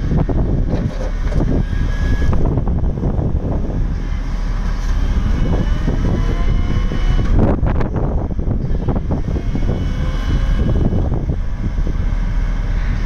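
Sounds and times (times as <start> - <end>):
excavator diesel engine running: 0.0 - 13.0
faint high whine: 1.3 - 13.0.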